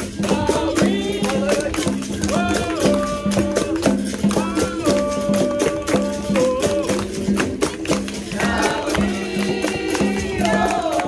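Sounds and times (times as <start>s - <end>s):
jingling tambourine: 0.0s - 11.0s
percussion strokes: 0.0s - 11.0s
voices singing: 0.0s - 11.0s.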